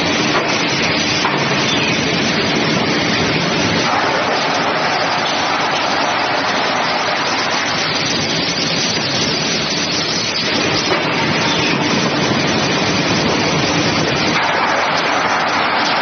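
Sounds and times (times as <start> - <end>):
sanding machine and conveyor noise: 0.0 - 16.0.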